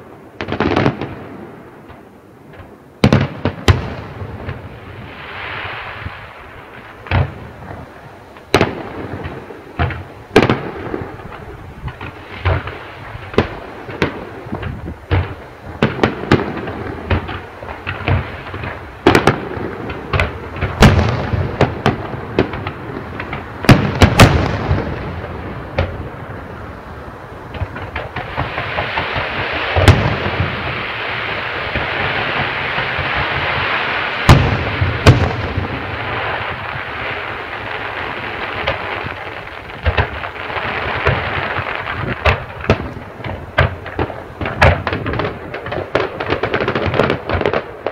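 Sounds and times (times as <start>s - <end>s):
continuous hiss: 0.0s - 47.9s
fireworks bangs and booms: 0.0s - 47.9s.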